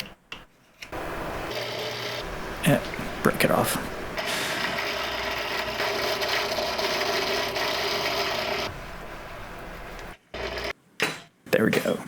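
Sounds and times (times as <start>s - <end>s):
power tool grinding: 0.9s - 10.8s.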